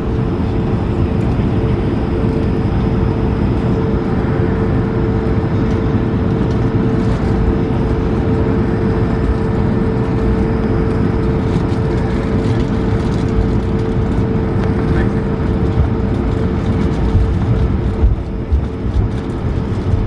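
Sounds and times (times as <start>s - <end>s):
aircraft cabin engine rush: 0.0s - 20.0s
steady hum tone: 0.0s - 20.0s.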